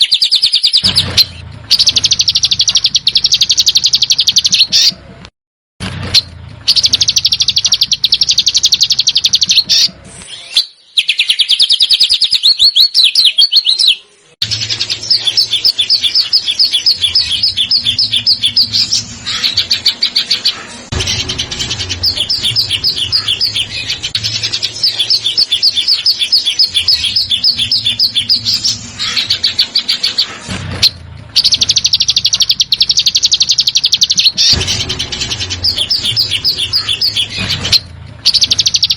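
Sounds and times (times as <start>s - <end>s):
songbird rattling trills: 0.0s - 5.0s, 6.2s - 13.8s, 14.4s - 38.9s.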